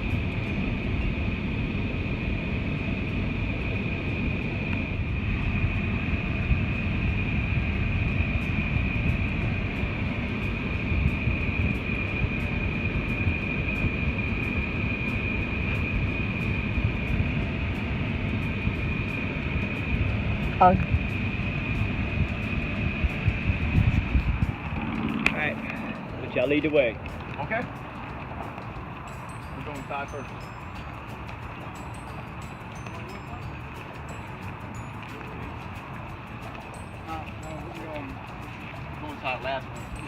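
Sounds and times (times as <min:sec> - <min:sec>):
car road rumble: 0:00.0 - 0:40.0
thin high-pitched whine: 0:00.0 - 0:40.0.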